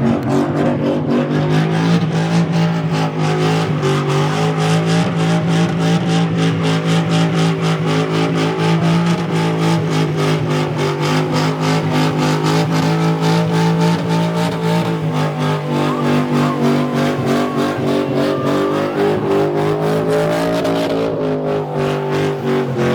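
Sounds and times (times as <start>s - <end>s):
car engine at high revs: 0.0s - 22.9s.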